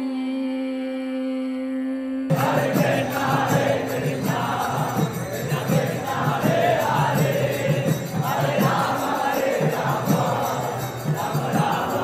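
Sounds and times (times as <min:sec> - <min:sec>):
crowd chanting: 0:02.3 - 0:12.0
drums and hand cymbals: 0:02.3 - 0:12.0.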